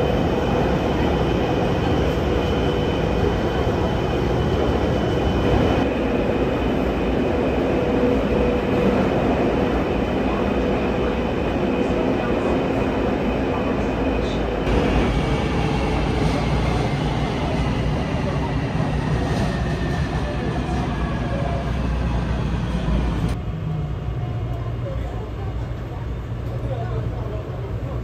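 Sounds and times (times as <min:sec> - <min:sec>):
train wheels rumbling: 0:00.0 - 0:27.9.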